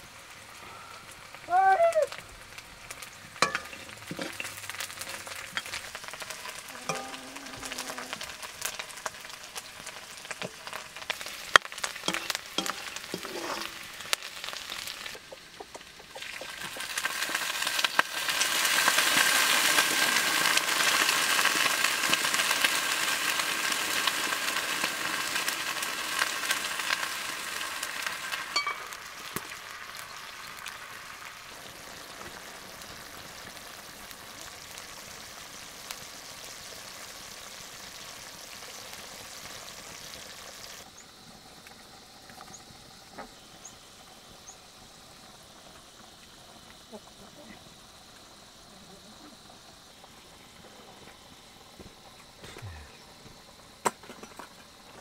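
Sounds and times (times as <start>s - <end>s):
greens sizzling in wok: 0.0s - 55.0s.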